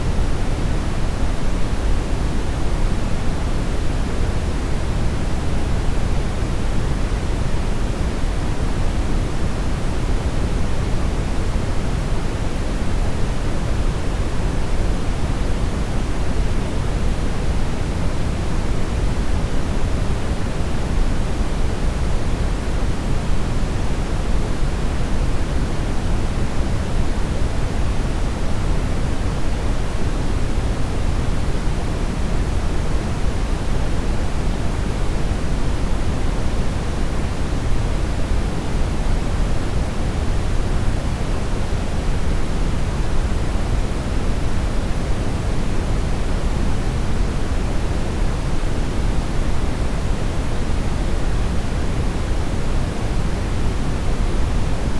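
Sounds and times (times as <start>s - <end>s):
brown noise hiss: 0.0s - 54.9s.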